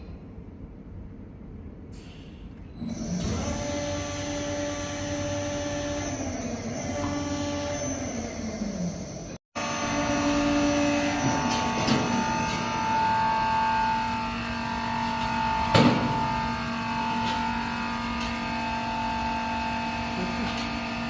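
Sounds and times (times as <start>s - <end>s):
machinery humming with whining tones: 0.0s - 21.0s.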